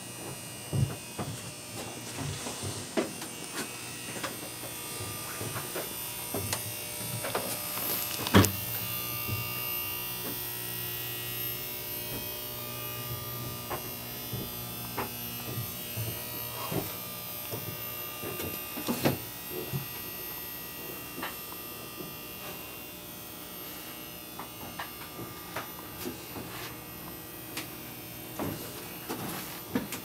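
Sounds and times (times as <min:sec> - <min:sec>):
engine room machinery humming: 0:00.0 - 0:30.0.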